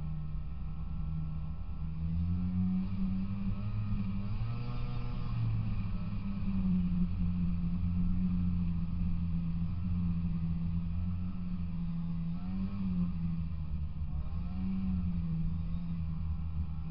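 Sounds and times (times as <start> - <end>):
snowmobile engine running: 0.0 - 16.9.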